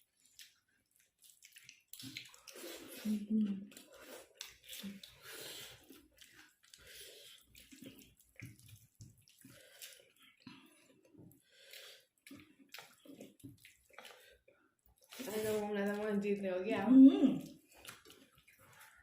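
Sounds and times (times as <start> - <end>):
wet chewing and lip-smacking: 0.0 - 16.0, 17.4 - 19.0.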